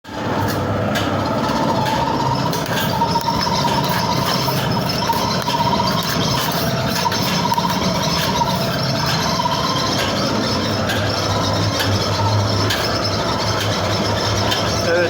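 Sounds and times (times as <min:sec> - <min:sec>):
machine motor hum: 0:00.1 - 0:15.0.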